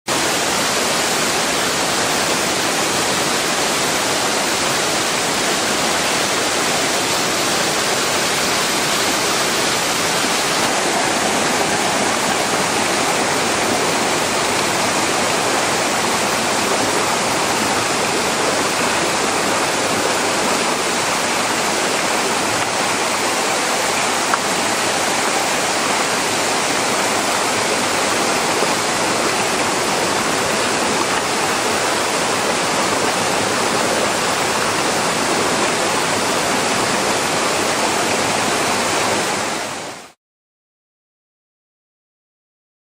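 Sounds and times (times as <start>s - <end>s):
waterfall pouring: 0.1s - 40.2s.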